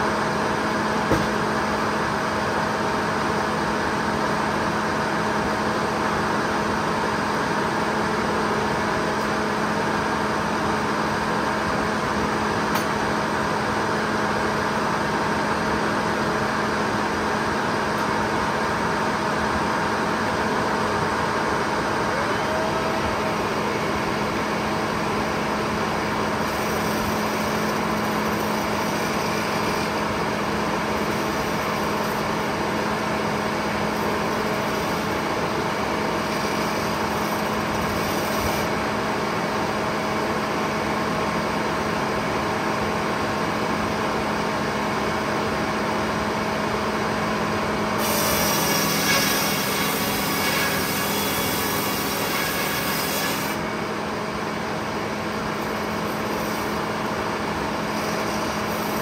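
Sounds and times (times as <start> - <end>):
circular sawmill humming: 0.0 - 59.0.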